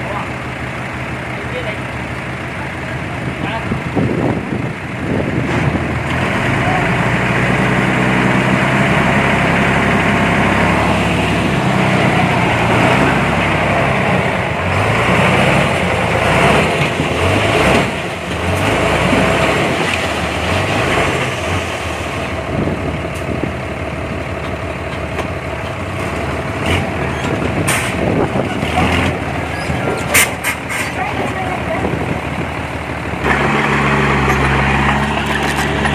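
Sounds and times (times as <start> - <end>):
heavy machinery diesel engine: 0.0 - 35.9.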